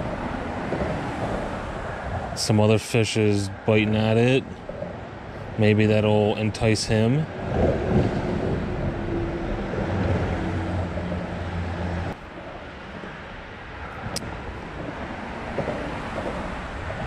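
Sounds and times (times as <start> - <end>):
water: 0.0 - 17.0
wind: 0.0 - 17.0.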